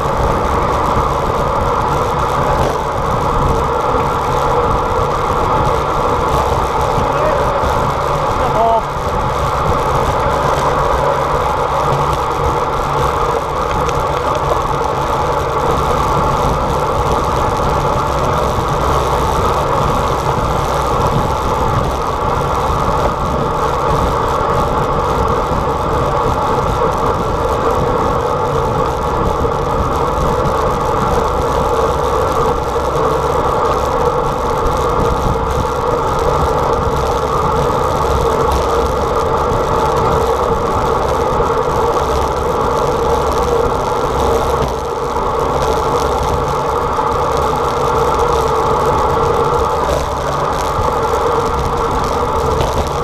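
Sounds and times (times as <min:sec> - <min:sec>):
bicycle tyres on road: 0:00.0 - 0:53.0.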